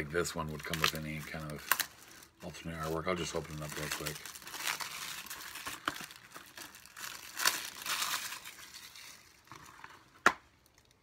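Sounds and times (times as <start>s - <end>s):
plastic shrink wrap rustling: 0.0s - 11.0s.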